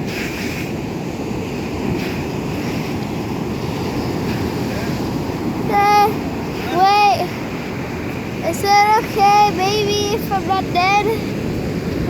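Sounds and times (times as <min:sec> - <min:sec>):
surf on the shore: 0:00.0 - 0:12.0
wind rumbling on microphone: 0:00.0 - 0:12.0.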